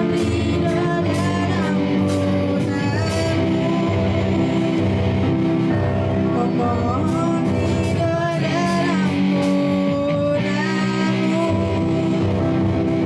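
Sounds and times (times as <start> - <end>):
girl singing into microphone: 0.0 - 4.8, 5.8 - 12.6
rock band playing live: 0.0 - 13.0.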